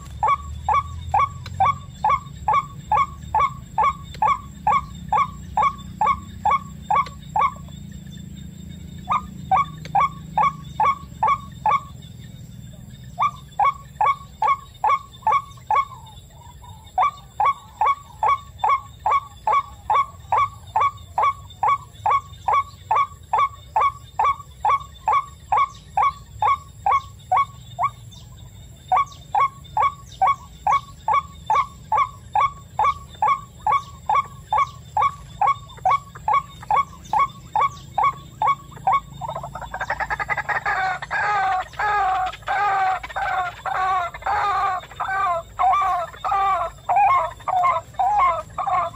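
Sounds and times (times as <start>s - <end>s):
waterhen calling: 0.0s - 7.8s, 9.0s - 12.0s, 13.1s - 28.3s, 28.9s - 48.9s.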